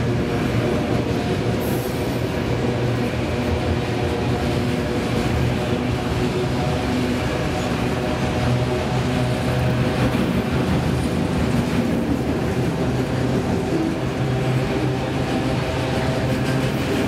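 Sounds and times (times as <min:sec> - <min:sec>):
freight cars rumbling and rattling: 0:00.0 - 0:17.0.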